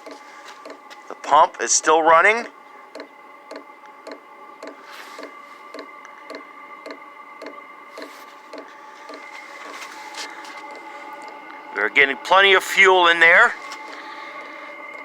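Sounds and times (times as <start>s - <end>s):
motor whine: 0.0s - 15.0s.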